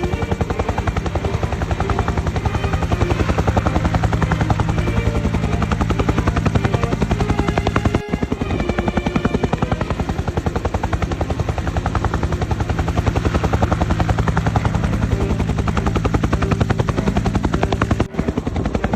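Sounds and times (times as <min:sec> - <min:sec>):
helicopter rotor chopping: 0:00.0 - 0:18.9
low engine drone: 0:00.0 - 0:18.9.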